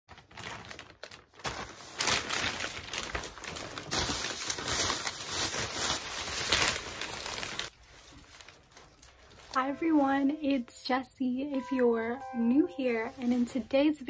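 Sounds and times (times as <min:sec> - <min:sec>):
plastic bags rustling and crinkling: 0:00.1 - 0:10.6, 0:12.8 - 0:14.0.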